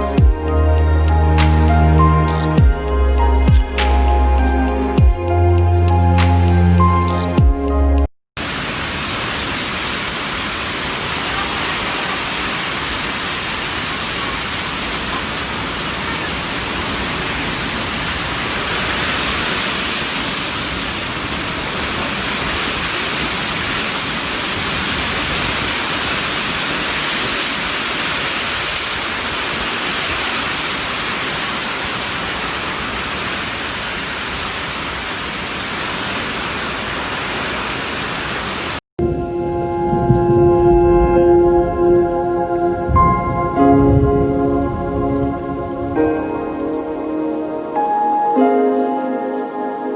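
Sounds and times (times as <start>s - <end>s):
heavy rain: 0.0s - 49.9s
wind: 0.0s - 49.9s.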